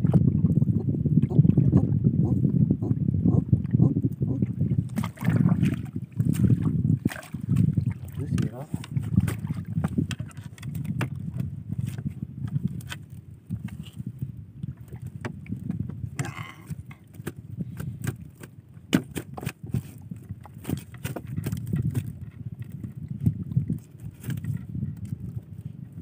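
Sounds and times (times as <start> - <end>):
low rumble of wind and water: 0.0 - 26.0.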